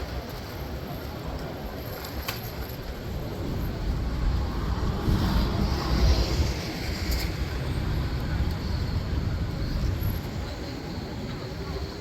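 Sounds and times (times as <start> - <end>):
city street traffic: 0.0 - 12.0
wind rumble on microphone: 1.2 - 12.0.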